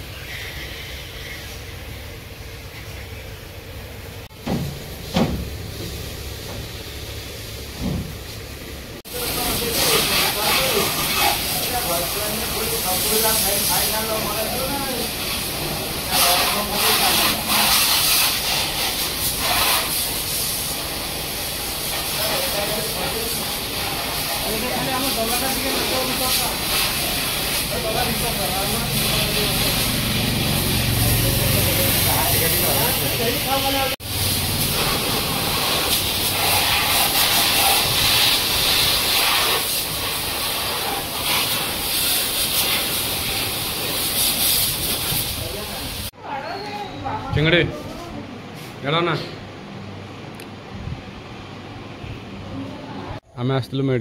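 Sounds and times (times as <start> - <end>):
pressure washer jet spraying: 0.0 - 46.2.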